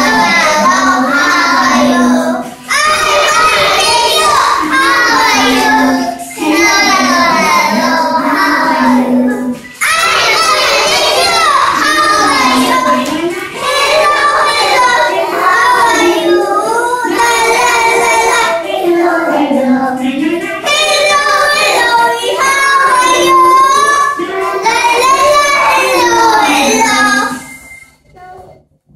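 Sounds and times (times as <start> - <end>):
children singing in chorus: 0.0 - 27.7.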